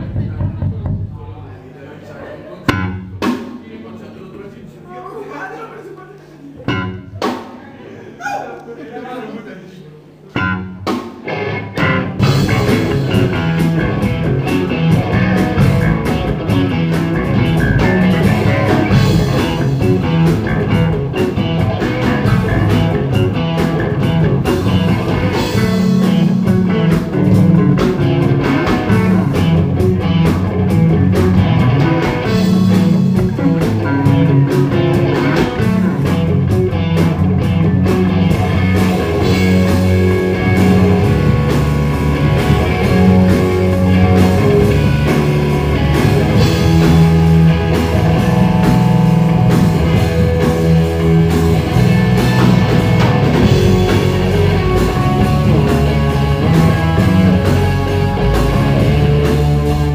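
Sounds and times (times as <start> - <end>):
electric bass guitar: 2.7 - 3.4, 6.6 - 7.4, 10.3 - 59.9
electric guitar: 6.6 - 7.4, 10.3 - 59.9
drum kit with ringing cymbals: 11.9 - 59.9.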